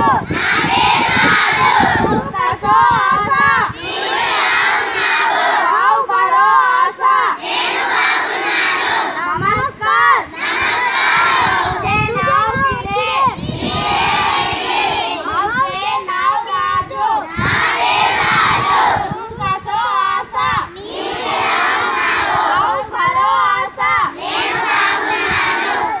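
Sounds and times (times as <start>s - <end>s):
children chanting in unison: 0.0s - 26.0s.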